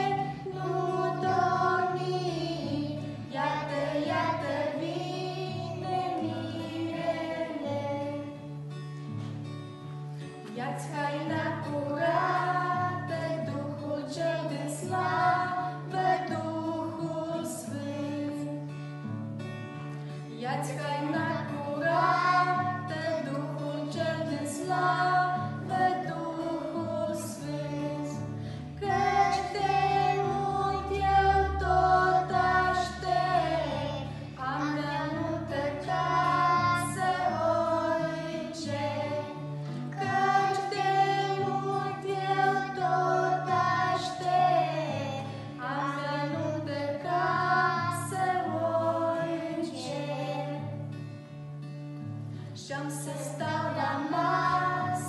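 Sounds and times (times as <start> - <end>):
girls and woman singing: 0.0 - 8.6, 10.4 - 18.9, 20.3 - 51.1, 52.6 - 55.0
strummed acoustic guitar: 0.0 - 55.0.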